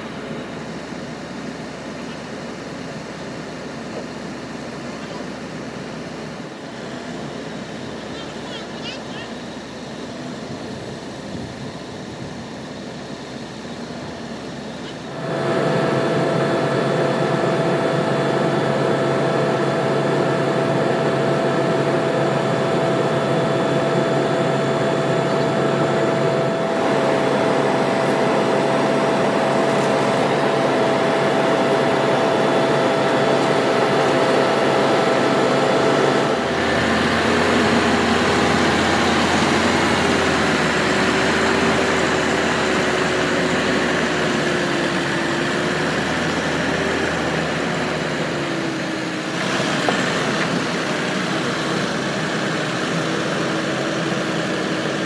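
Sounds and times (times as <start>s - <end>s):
deep engine rumble: 0.0s - 55.0s
hydraulic whine: 0.0s - 55.0s
truck engine and hydraulics running: 0.0s - 55.0s.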